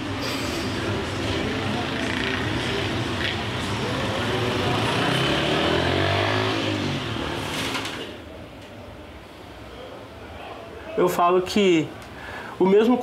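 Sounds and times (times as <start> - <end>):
hum of traffic: 0.0 - 13.0.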